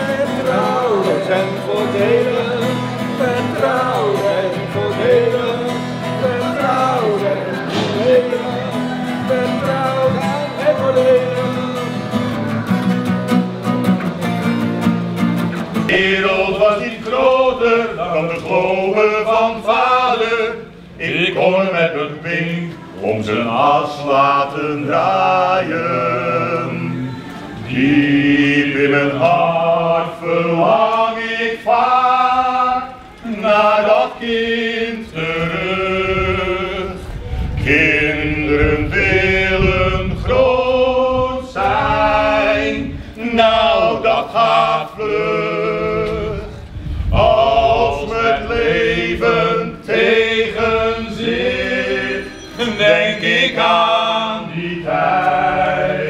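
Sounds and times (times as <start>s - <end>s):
male group singing a cappella: 0.0s - 12.1s, 15.9s - 56.0s.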